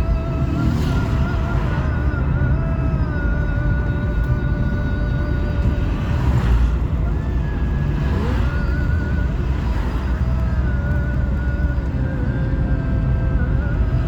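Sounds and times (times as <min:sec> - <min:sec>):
road and wind rumble: 0:00.0 - 0:14.0.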